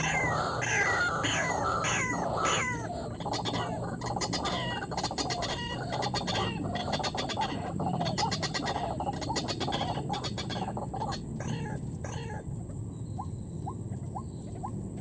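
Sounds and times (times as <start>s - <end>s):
bird croaking calls: 0.0s - 15.0s.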